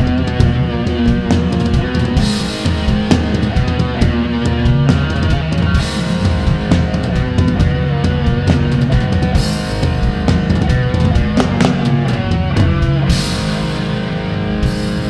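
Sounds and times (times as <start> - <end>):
drum kit beating: 0.0 - 15.0
held guitar notes: 0.0 - 15.0.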